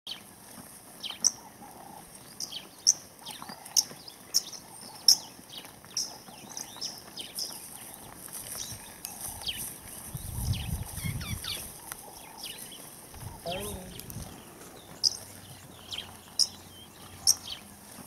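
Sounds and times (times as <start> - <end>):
faint outdoor background: 0.1 - 18.0
plovers calling: 1.0 - 18.0.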